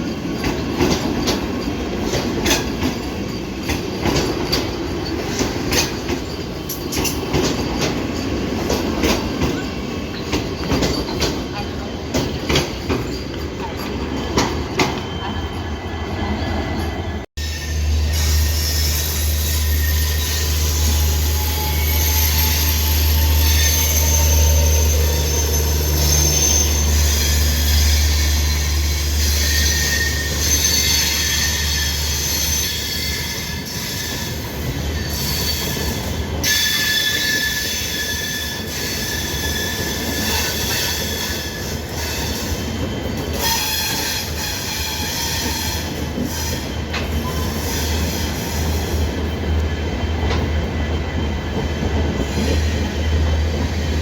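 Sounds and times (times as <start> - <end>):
train wheels and brakes squealing: 0.0 - 54.0.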